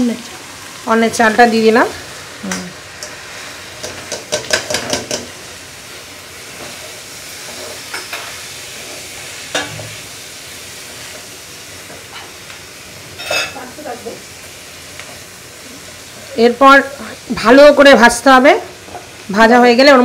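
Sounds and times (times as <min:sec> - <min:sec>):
rice sizzling in oil: 0:00.0 - 0:20.0.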